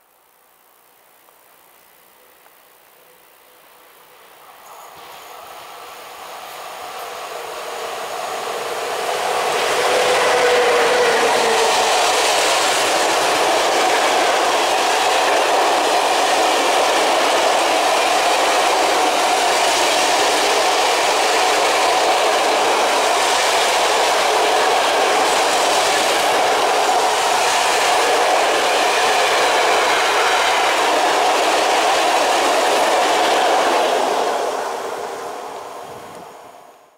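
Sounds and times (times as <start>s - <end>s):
freight train wheels rumbling: 4.5s - 36.7s.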